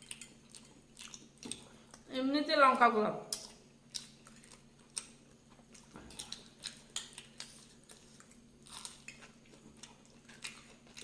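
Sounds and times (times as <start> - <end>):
person chewing crunchily: 0.0 - 2.1, 3.3 - 11.0.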